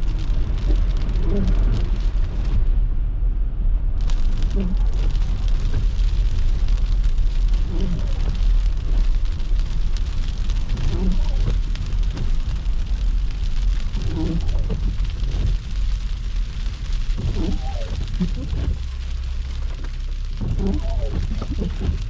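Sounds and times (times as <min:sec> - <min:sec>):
car road rumble: 0:00.0 - 0:22.0
crackling patter of snow: 0:00.0 - 0:22.0.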